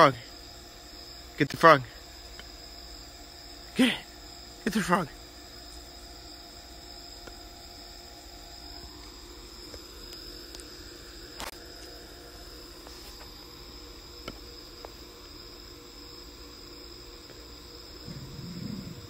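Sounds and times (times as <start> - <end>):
night insects chirping: 0.0 - 19.0.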